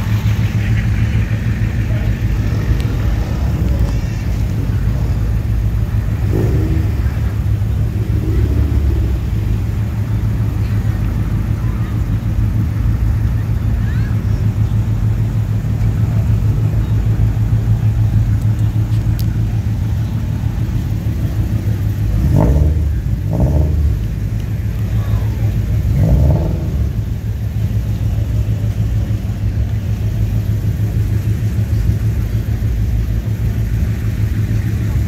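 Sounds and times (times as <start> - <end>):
car engine revving: 0.0 - 35.0
car engine rumbling: 0.0 - 35.0.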